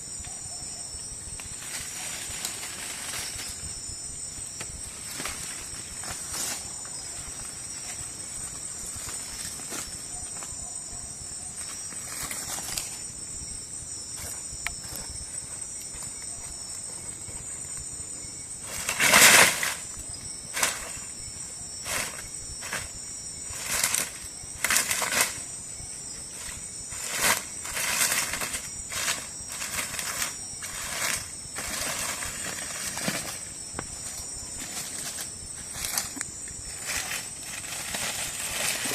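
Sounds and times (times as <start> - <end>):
night insects shrilling: 0.0 - 38.9
rustling and scraping: 1.3 - 10.6, 11.6 - 13.1, 14.1 - 38.9.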